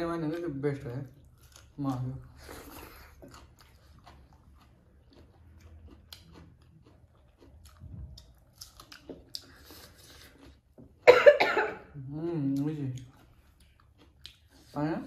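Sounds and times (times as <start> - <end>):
people chewing: 1.1 - 11.1, 12.4 - 15.0.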